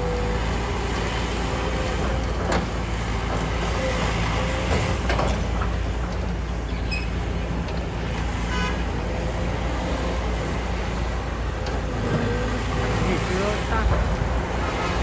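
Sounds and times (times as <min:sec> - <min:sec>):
diesel machinery rumble: 0:00.0 - 0:15.0.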